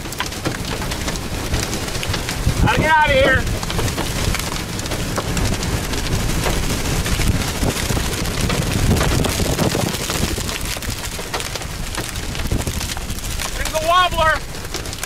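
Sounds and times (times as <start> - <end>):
gusting wind rumble: 0.0 - 15.0
rain hiss: 0.0 - 15.0
raindrop taps: 0.0 - 15.0.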